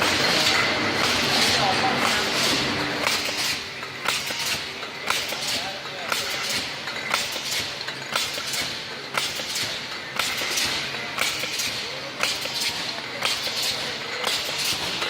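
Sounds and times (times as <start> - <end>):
machine clacking: 0.0 - 15.0.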